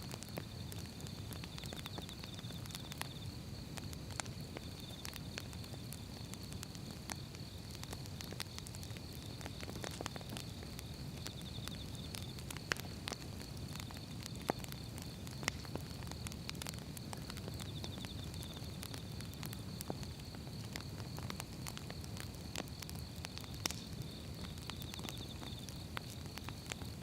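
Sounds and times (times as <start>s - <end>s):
firewood crackling and popping: 0.0s - 27.0s
rush of flames: 0.0s - 27.0s.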